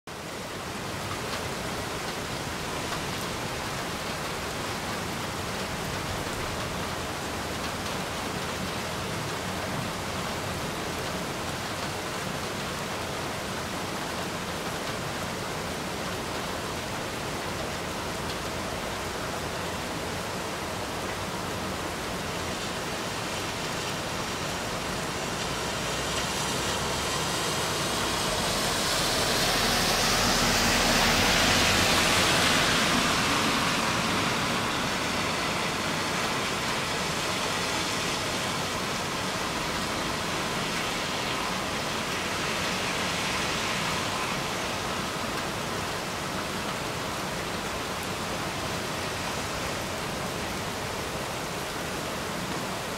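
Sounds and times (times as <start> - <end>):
steady rain falling: 0.1 - 52.9
vehicle tyres hissing on wet road: 0.1 - 52.9.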